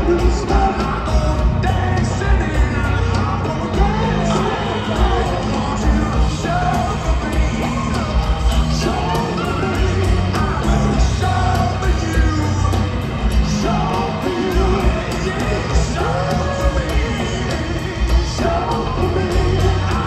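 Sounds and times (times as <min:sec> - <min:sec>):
bass guitar: 0:00.0 - 0:20.0
drums: 0:00.0 - 0:20.0
person singing lead vocal: 0:00.0 - 0:20.0.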